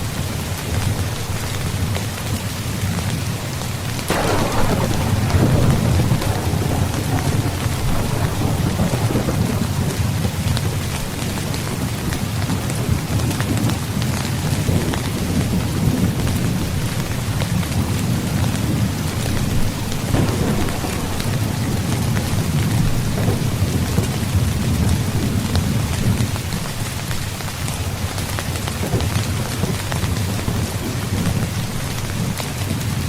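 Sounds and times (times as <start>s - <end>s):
heavy rain: 0.0s - 33.0s
low rumble of thunder: 0.8s - 33.0s.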